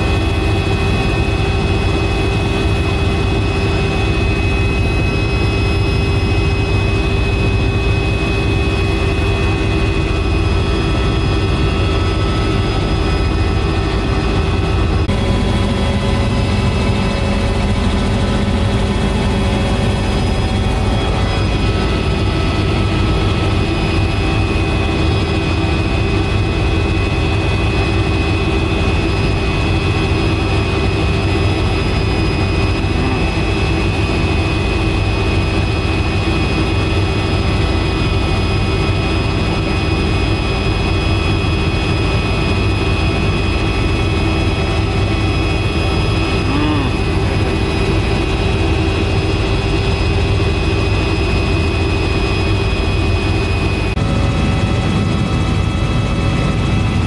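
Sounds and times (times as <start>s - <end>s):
helicopter rotor and engine rumble: 0.0s - 57.0s
steady whining tones: 0.0s - 57.0s.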